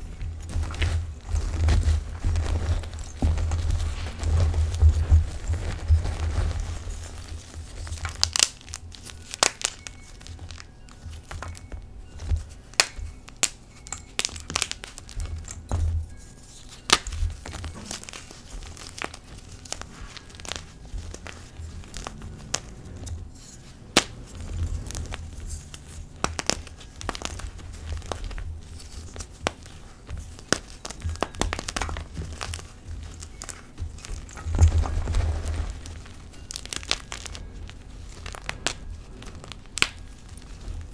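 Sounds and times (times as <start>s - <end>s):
chalk crumbling and snapping: 0.0s - 40.9s.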